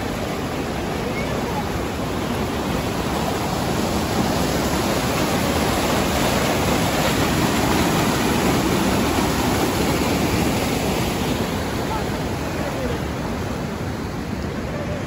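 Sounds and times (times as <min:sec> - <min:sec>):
river water rushing over weir: 0:00.0 - 0:15.0.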